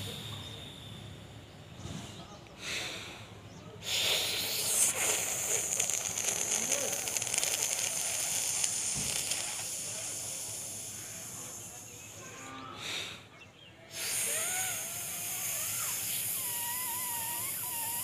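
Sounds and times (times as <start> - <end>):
hissing breath inhalation: 0.0 - 12.2, 13.9 - 18.0.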